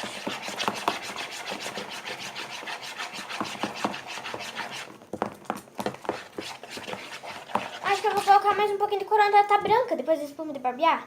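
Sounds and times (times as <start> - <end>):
spoon scraping slime in pot: 0.0 - 9.0.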